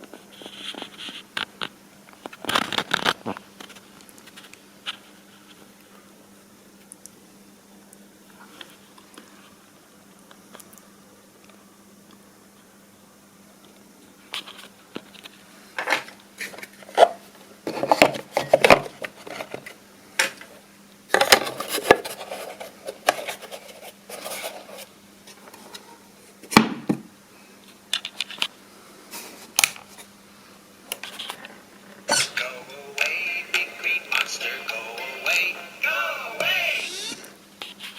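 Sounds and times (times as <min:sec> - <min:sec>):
faint electrical hum: 0:00.0 - 0:37.9.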